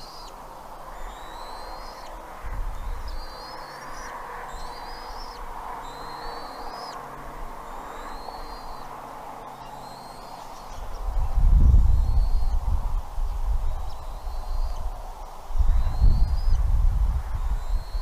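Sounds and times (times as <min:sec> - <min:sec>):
eagle whistled calls: 0:00.0 - 0:07.0, 0:07.6 - 0:12.7, 0:13.7 - 0:16.7, 0:17.4 - 0:18.0
steady background noise: 0:00.0 - 0:18.0.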